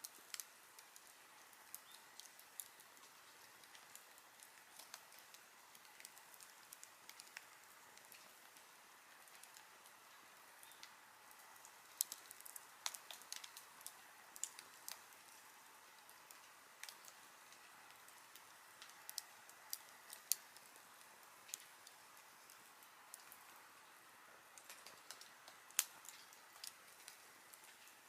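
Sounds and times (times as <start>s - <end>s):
campfire crackling: 0.0s - 28.0s
faint steady hiss: 0.0s - 28.0s.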